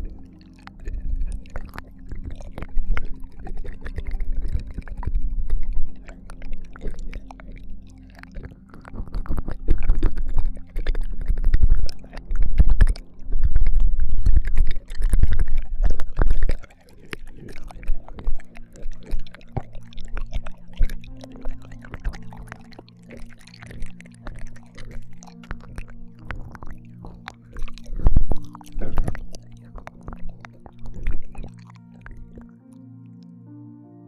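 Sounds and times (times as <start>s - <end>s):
heavy low rumbles: 0.0s - 32.4s
wet licking mouth sounds: 0.0s - 33.2s.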